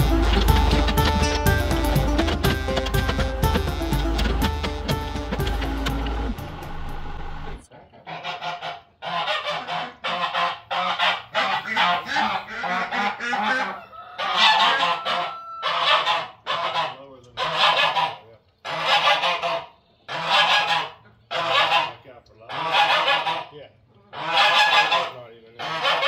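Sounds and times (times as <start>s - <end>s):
geese honking: 0.0s - 26.0s.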